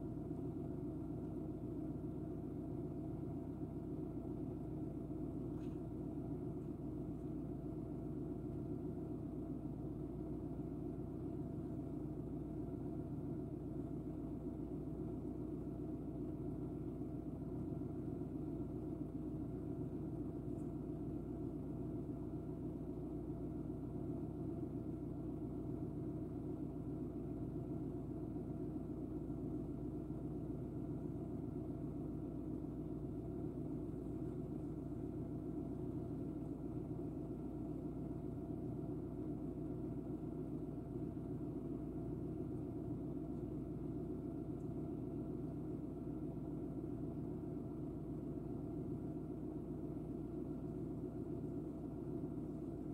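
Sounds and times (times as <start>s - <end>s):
faint constant hum: 0.0s - 52.9s
steady low rumble: 0.0s - 52.9s.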